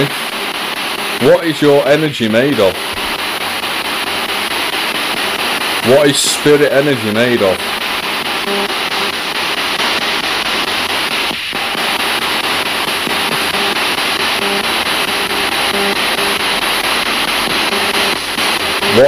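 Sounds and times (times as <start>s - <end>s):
radio static hiss: 0.0s - 19.0s
radio tones: 0.0s - 19.0s.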